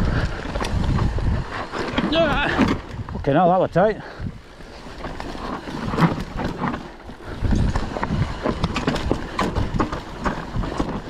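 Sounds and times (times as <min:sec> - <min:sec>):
bike tyres rumbling on dirt: 0:00.0 - 0:11.0.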